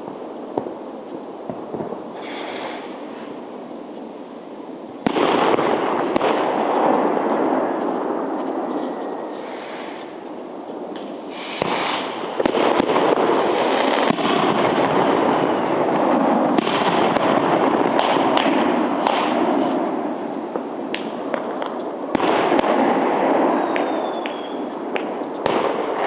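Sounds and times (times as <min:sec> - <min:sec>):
fireworks crackling: 0:00.0 - 0:26.0
firework bangs: 0:01.4 - 0:03.4, 0:05.0 - 0:10.2, 0:10.9 - 0:26.0.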